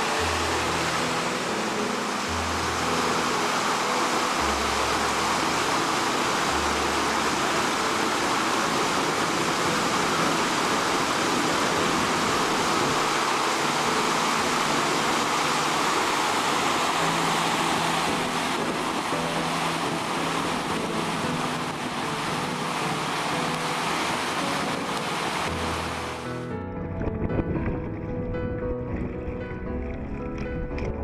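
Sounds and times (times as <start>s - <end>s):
whitewater rapids rushing: 0.0s - 26.5s.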